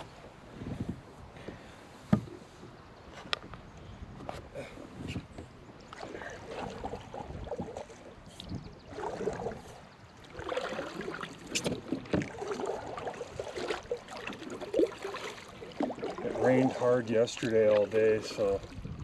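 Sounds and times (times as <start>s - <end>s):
paddle splashing water: 0.0s - 19.0s.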